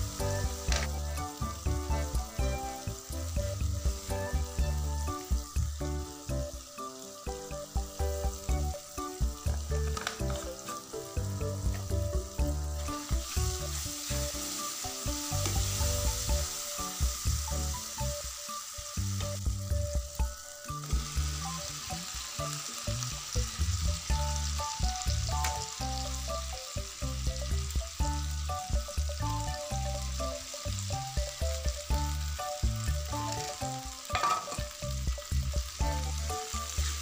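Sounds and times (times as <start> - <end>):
food sizzling in hot oil: 0.0 - 37.0
low background music: 0.0 - 37.0.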